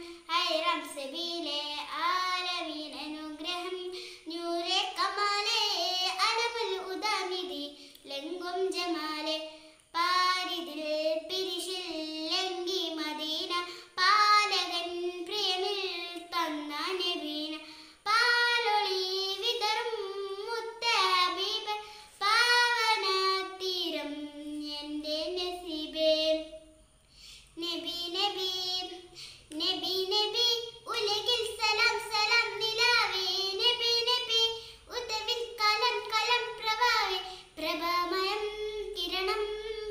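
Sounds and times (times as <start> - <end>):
girl singing: 0.0 - 39.9.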